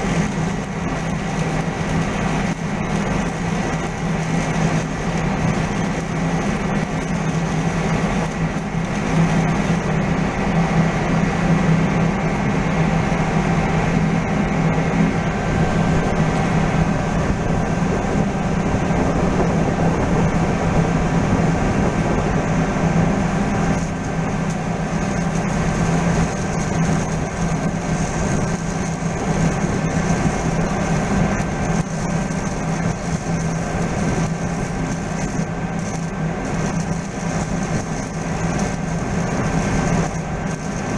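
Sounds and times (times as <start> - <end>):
loud machinery drone: 0.0 - 40.9.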